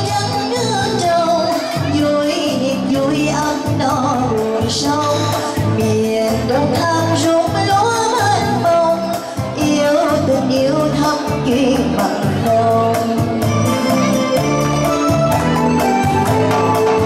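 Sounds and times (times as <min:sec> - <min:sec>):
woman singing into a microphone: 0:00.0 - 0:14.9
electronic keyboard with steady beat: 0:00.0 - 0:17.0.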